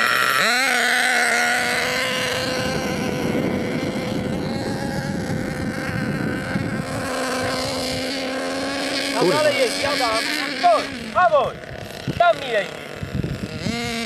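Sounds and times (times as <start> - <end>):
small nitro engine revving: 0.0 - 14.0.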